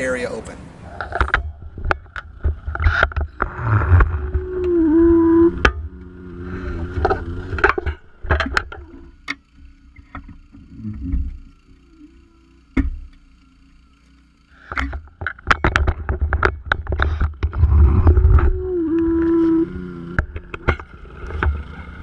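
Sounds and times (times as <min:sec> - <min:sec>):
metal creaking and groaning: 0:00.8 - 0:13.3, 0:14.5 - 0:22.0.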